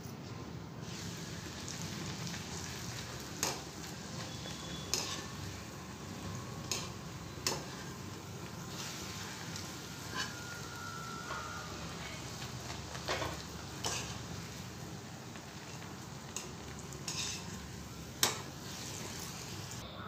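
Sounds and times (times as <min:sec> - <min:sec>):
bread sizzling in hot oil: 0:00.8 - 0:19.8.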